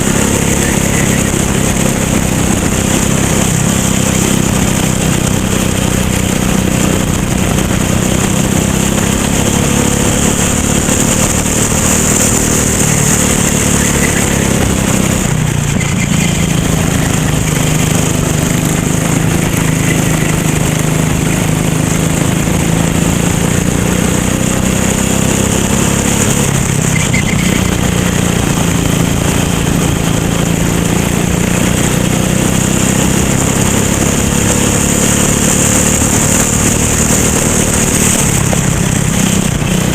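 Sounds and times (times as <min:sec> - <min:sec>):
racing kart engine revving: 0:00.0 - 0:39.9.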